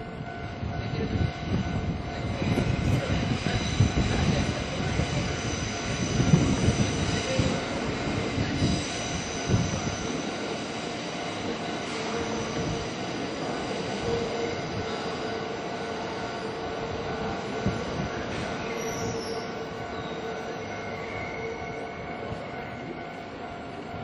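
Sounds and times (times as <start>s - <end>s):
crossing warning bell: 0.0s - 24.0s
train wheels rumbling on rails: 0.0s - 24.0s.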